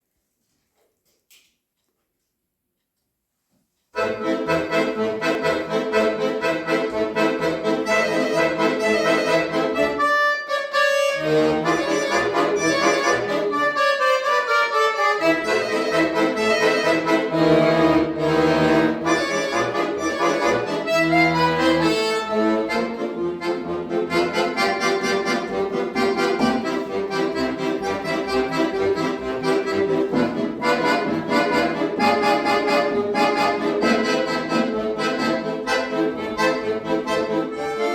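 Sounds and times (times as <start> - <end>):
accordion duet: 4.0 - 37.9
accordion notes sliding down: 4.0 - 37.9.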